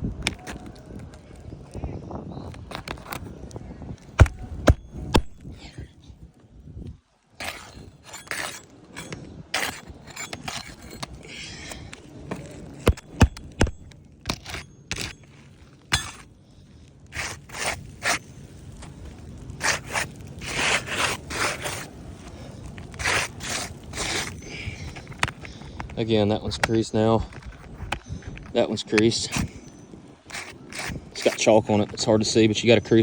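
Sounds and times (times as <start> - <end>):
shingles scraping and rustling: 0.2 - 1.8, 2.4 - 6.4, 7.2 - 33.0.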